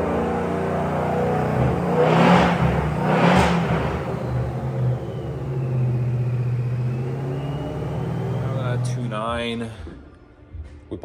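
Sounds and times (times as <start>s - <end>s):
supercharged car engine revving: 0.0s - 9.4s.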